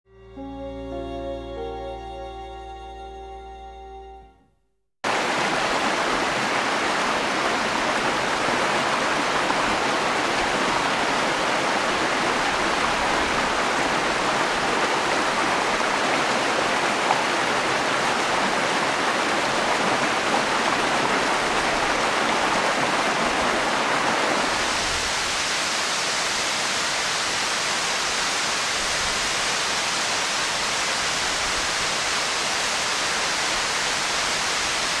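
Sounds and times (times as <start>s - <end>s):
waterfall rushing: 5.0s - 35.0s.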